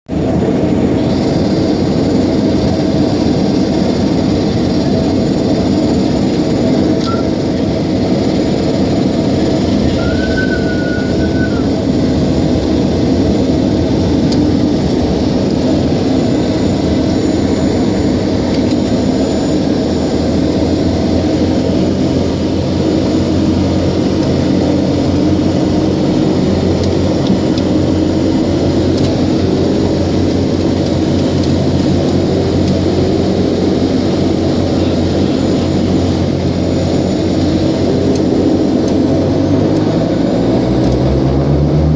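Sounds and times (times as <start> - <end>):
turboprop engines running: 0.1 - 41.9.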